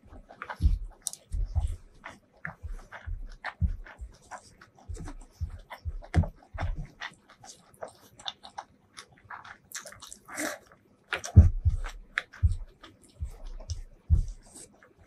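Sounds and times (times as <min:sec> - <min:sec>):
chewing: 0:00.0 - 0:15.0
hand kneading food on a board: 0:00.0 - 0:15.0.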